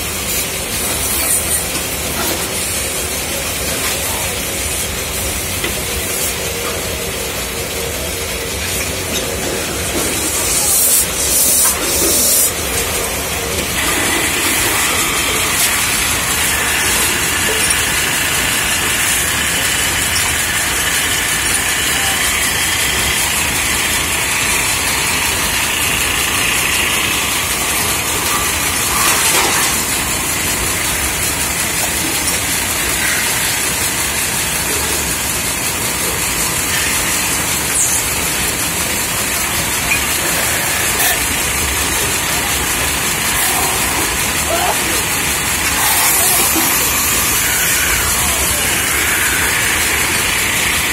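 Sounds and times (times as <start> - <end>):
metal-spinning lathes running: 0.0 - 50.9
tools scraping spinning metal: 8.6 - 50.9.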